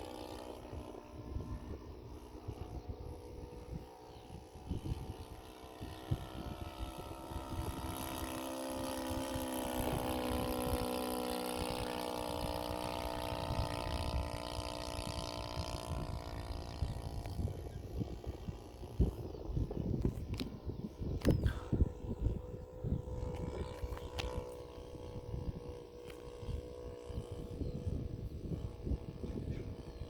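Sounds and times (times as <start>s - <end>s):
model airplane engine droning: 0.0s - 30.0s
wind buffeting microphone: 0.0s - 30.0s.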